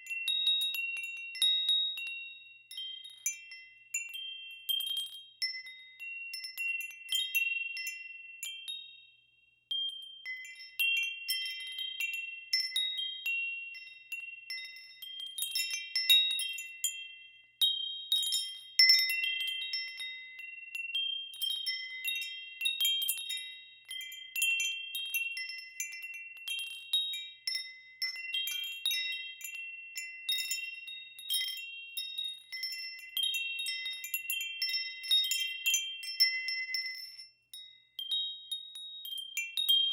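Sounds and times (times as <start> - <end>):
wind chimes ringing: 0.0 - 9.1, 9.7 - 39.9.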